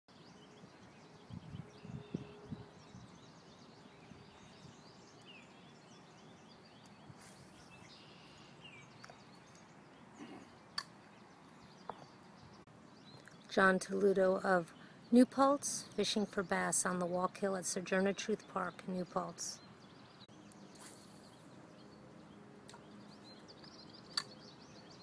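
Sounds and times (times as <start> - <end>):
small birds chirping: 0.1 - 25.0
low steady hiss: 0.2 - 25.0.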